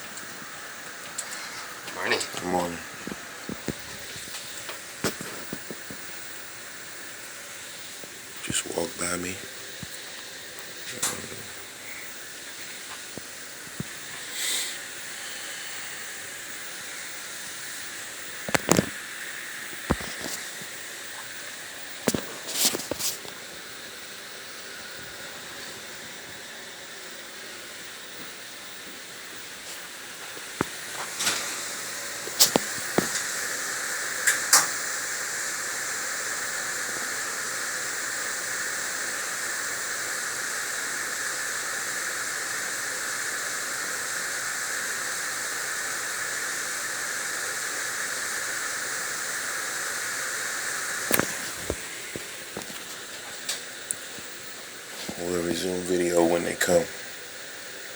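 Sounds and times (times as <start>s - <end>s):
ship machinery hissing: 0.0s - 57.9s.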